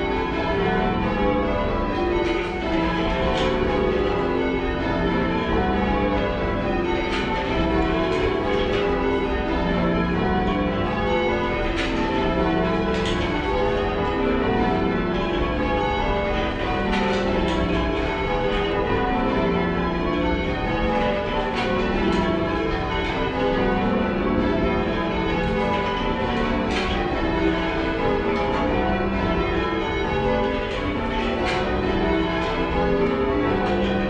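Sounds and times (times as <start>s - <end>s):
church bells ringing in changes: 0.0s - 34.0s.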